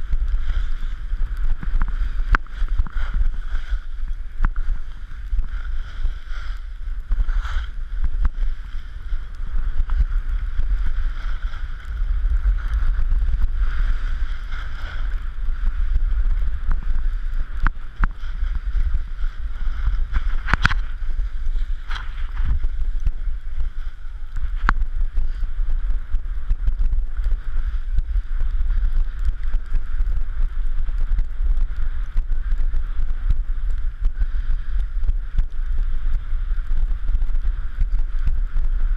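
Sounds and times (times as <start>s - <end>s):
skis sliding over snow: 0.0s - 38.9s
wind buffeting microphone: 0.0s - 38.9s.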